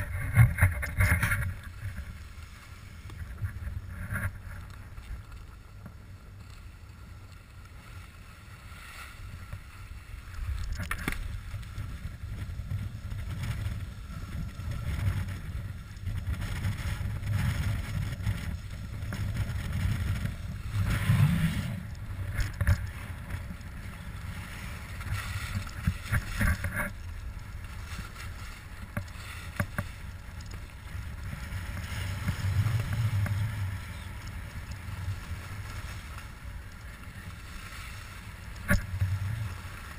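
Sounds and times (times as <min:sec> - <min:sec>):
skis scraping on snow: 0:00.0 - 0:39.9
wind rumbling on microphone: 0:00.0 - 0:39.9.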